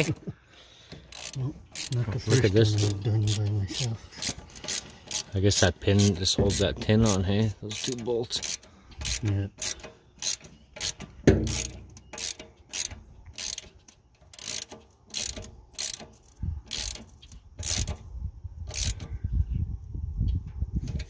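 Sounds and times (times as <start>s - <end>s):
ratchet wrench clicking: 0.9s - 19.1s.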